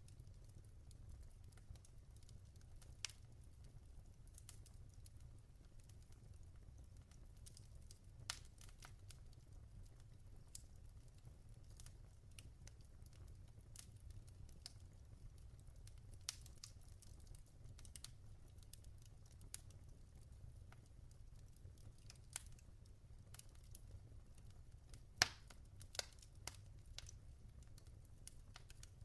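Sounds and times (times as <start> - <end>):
low fire rumble: 0.0 - 29.0
wood fire crackling and popping: 0.0 - 29.0.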